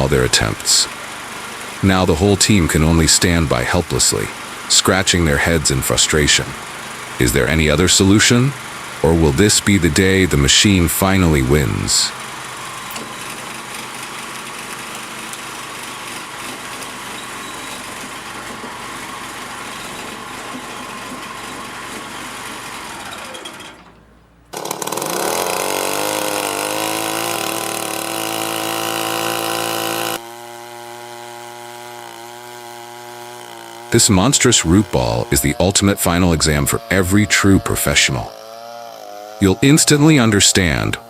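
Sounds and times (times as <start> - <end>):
wood-processing machine noise: 0.0 - 41.0
motor rising in pitch under load: 4.8 - 23.5, 24.5 - 40.6.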